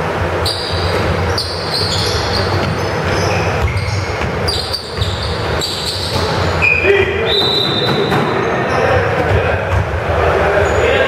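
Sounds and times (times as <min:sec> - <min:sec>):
low gym background noise: 0:00.0 - 0:11.0
sneakers squeaking on court: 0:00.2 - 0:10.0
basketball bouncing: 0:00.5 - 0:06.7, 0:07.4 - 0:10.2.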